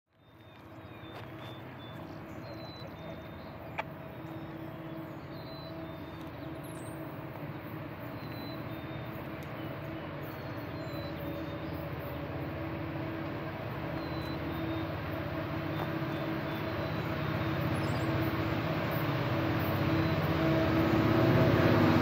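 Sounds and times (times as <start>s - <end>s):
diesel locomotive engine drone: 0.1s - 22.0s.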